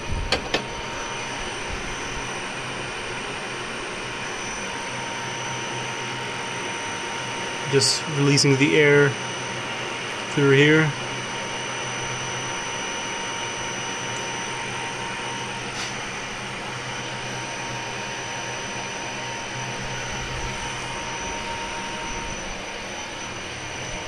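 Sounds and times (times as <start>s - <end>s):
faint steady whine: 0.0s - 24.0s
milling machine hissing: 0.0s - 24.0s.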